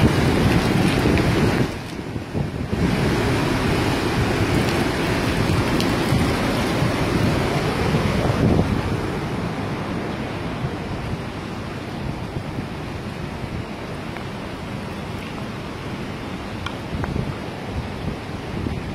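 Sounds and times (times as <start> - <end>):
water rushing through floodgates: 0.0 - 18.9.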